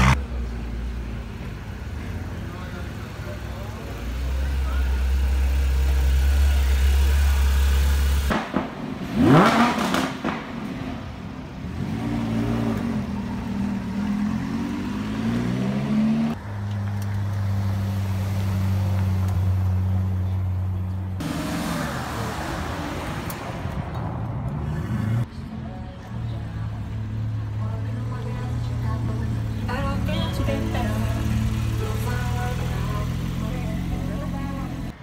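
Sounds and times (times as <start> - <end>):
sports car engines revving: 0.0 - 0.5, 1.1 - 25.3, 26.8 - 35.0.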